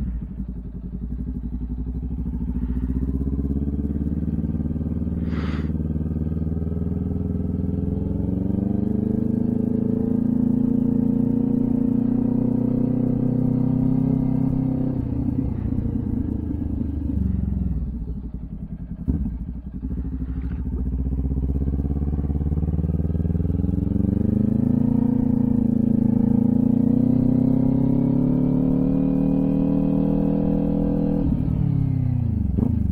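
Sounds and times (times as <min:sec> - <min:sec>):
motorcycle engine and exhaust: 0:00.0 - 0:32.9.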